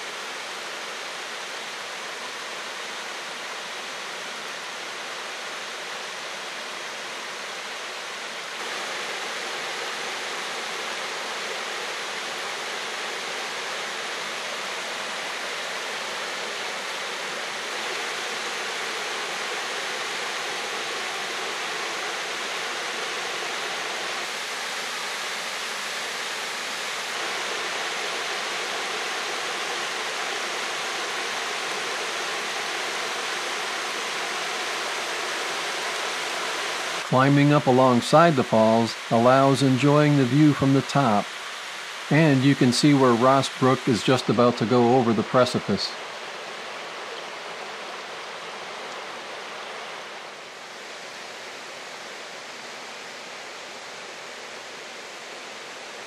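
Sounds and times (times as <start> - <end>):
waterfall splashing over rock: 0.0 - 56.0.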